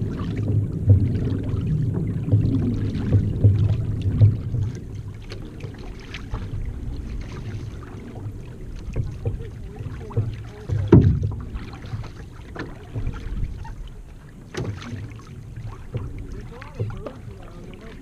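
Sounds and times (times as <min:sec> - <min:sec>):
paddle strokes: 0:00.0 - 0:18.0
water sloshing along a hull: 0:00.0 - 0:18.0.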